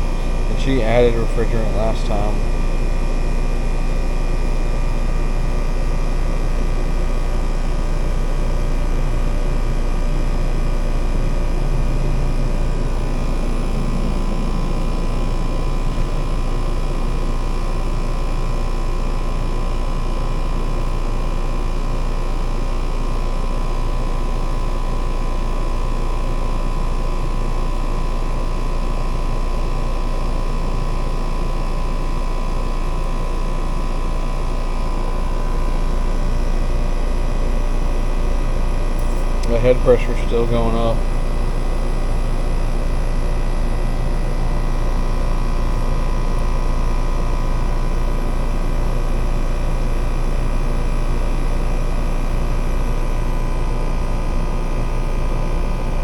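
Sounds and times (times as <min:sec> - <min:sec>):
heat pump low hum: 0:00.0 - 0:56.0.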